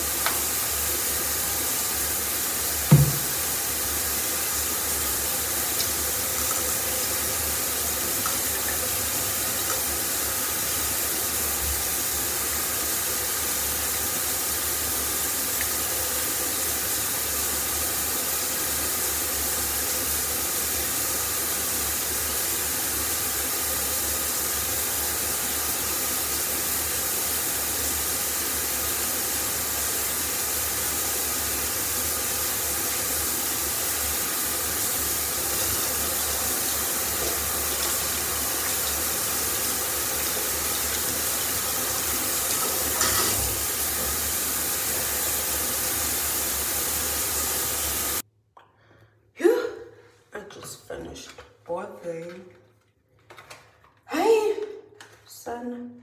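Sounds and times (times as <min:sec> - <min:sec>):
water running from a tap: 0:00.0 - 0:48.2.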